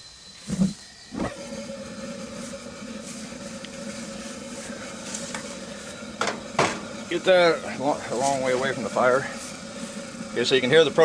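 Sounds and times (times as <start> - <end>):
propane flame hissing: 0.0 - 11.0
burner ignition thump: 0.5 - 11.0
low hum: 0.5 - 11.0.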